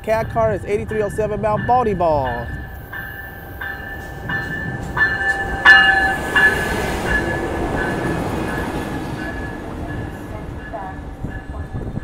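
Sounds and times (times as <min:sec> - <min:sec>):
diesel locomotive passing: 0:00.0 - 0:12.0
locomotive bell ringing: 0:00.0 - 0:12.0.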